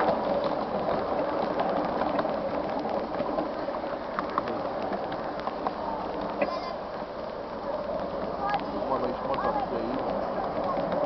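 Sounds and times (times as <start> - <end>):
miniature train wheels rumbling: 0.0 - 11.0.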